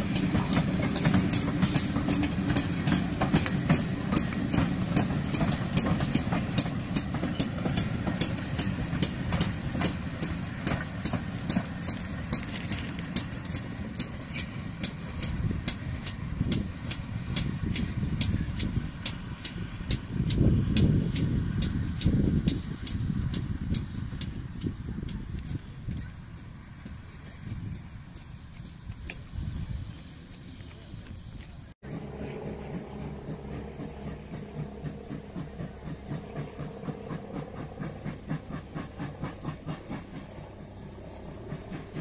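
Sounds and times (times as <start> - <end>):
steam train rumbling: 0.0 - 42.0.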